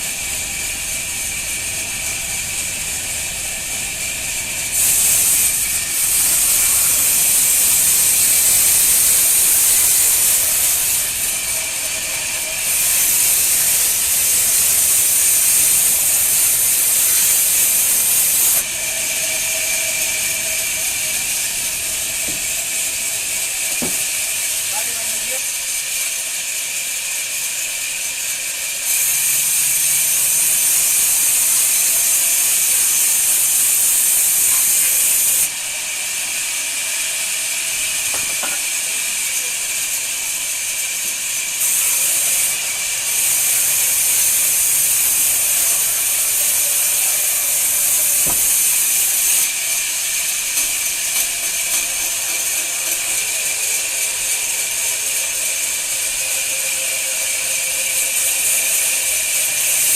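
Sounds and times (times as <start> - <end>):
woodworking machine hissing: 0.0 - 59.9.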